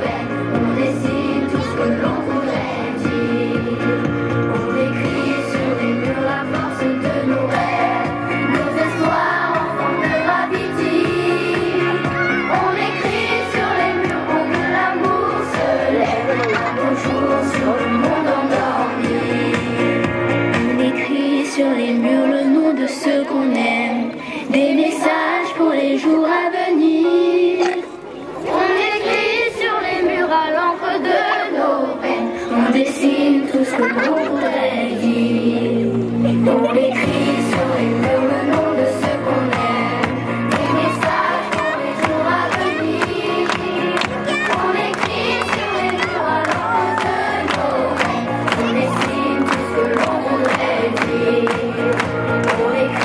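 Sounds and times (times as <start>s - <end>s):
young children singing: 0.0s - 20.1s, 20.8s - 53.0s
children's song with a beat: 0.0s - 53.0s.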